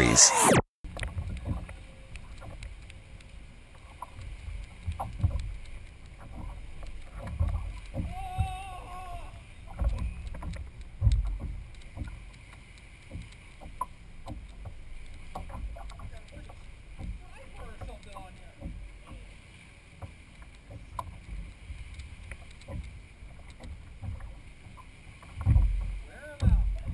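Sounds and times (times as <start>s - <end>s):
low thumps of rocking boat: 0.9s - 2.9s, 3.7s - 26.9s
water lapping against hull: 0.9s - 26.9s.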